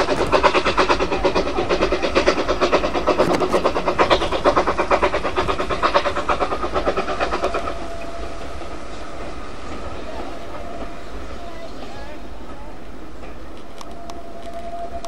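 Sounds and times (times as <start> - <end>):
steam locomotive chuffing: 0.0 - 15.0
train rumble: 0.0 - 15.0.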